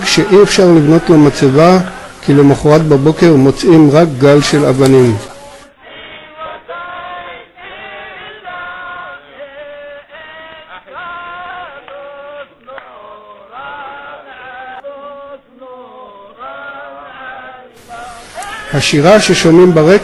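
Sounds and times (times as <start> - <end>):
man singing a chant: 0.0 - 20.0.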